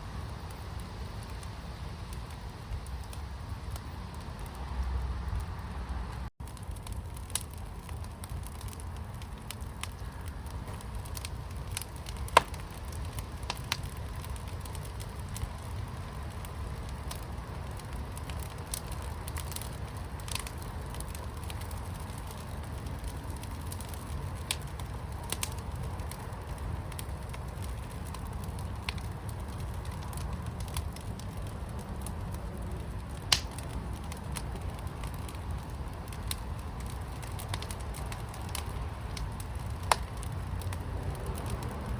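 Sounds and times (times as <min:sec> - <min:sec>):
fire crackling and popping: 0:00.0 - 0:41.9
fire pit rumbling: 0:00.0 - 0:41.9.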